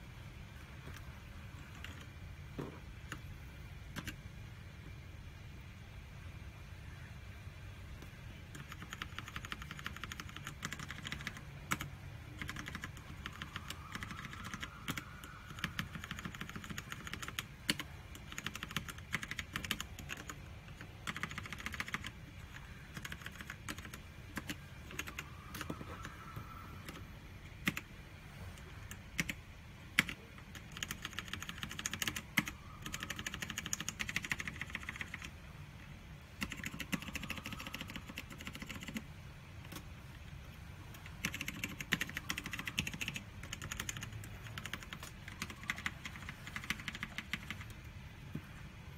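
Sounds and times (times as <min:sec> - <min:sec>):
mechanical keyboard typing: 0:00.8 - 0:02.2, 0:03.0 - 0:03.3, 0:03.9 - 0:04.2, 0:08.0 - 0:27.9, 0:28.5 - 0:35.4, 0:36.3 - 0:39.8, 0:40.9 - 0:47.8.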